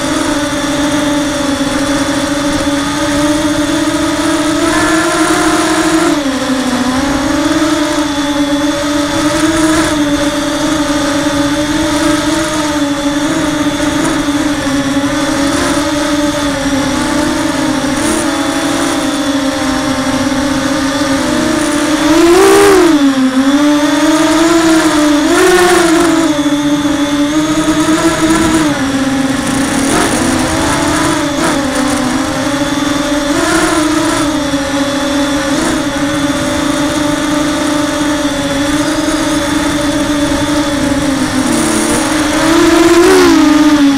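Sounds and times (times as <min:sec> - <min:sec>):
quadcopter motors and propellers: 0:00.0 - 0:43.9.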